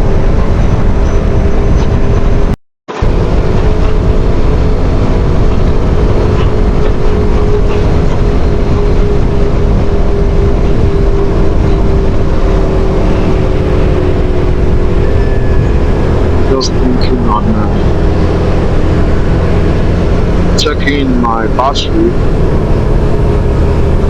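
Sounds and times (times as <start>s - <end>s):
quad bike engine drone: 0.0s - 24.0s
wind rumble on microphone: 0.0s - 24.0s.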